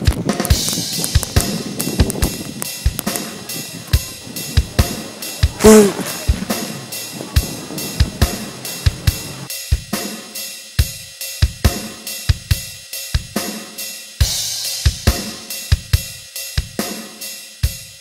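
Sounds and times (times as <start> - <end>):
drum kit beat: 0.0 - 18.0.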